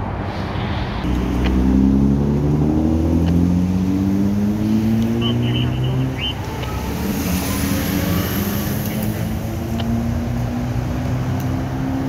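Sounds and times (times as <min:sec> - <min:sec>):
hum of car and truck engines: 0:00.0 - 0:12.0.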